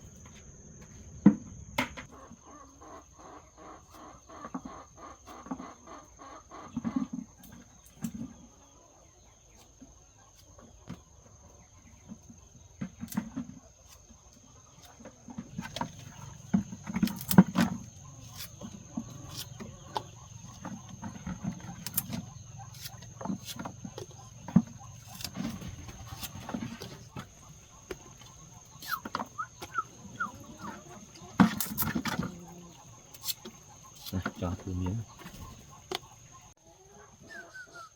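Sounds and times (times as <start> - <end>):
chickens clucking: 1.5 - 37.9.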